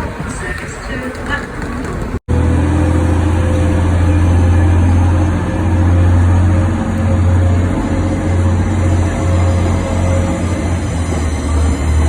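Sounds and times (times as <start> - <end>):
train engine humming: 0.0 - 12.0.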